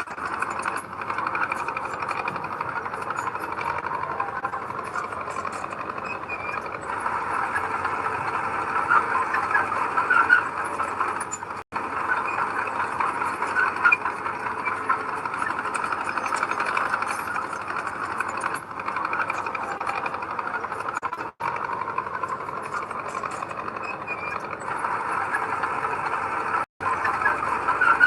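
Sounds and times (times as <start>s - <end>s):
heavy diesel machinery clattering: 0.0s - 28.0s.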